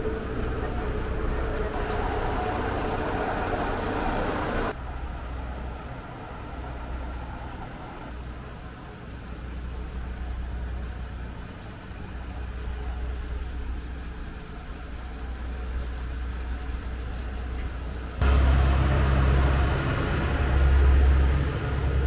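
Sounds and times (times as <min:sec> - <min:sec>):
railcar diesel engine hum: 0:00.0 - 0:22.0.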